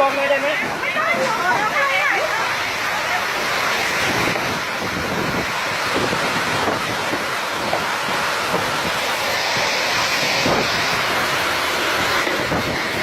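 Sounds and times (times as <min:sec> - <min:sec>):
strong wind rushing: 0:00.6 - 0:13.0
wind buffeting microphone: 0:00.6 - 0:13.0.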